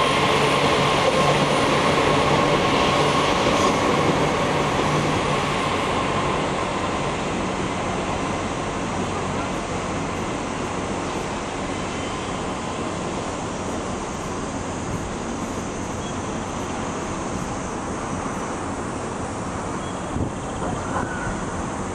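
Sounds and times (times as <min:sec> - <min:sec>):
diesel railcar rushing and droning: 0:00.0 - 0:21.9.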